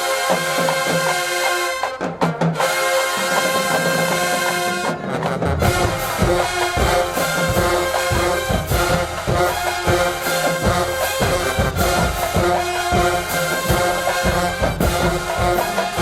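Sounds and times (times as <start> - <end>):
brass chords: 0.0 - 16.0
bass drums and percussion: 2.0 - 16.0.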